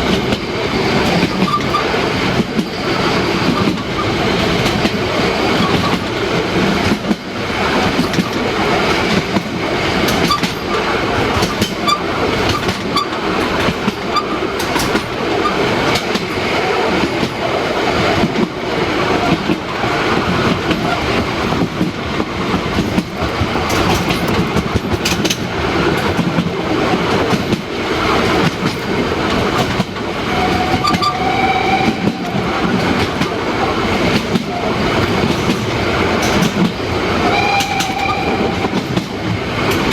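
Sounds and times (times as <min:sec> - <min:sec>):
steam train rumbling: 0:00.0 - 0:39.9
wheels clacking over rail joints: 0:00.0 - 0:39.9.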